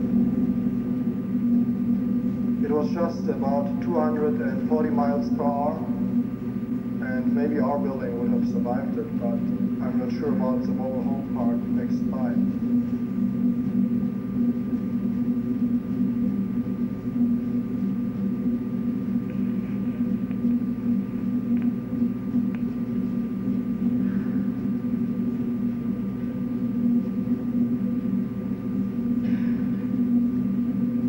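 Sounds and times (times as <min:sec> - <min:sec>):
projector motor hum: 0:00.0 - 0:31.0
thin high whine: 0:00.0 - 0:31.0.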